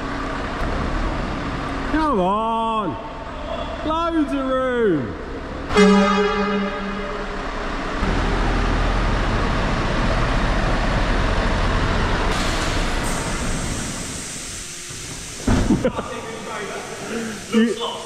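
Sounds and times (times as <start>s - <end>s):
truck engine low rumble: 0.0s - 18.0s.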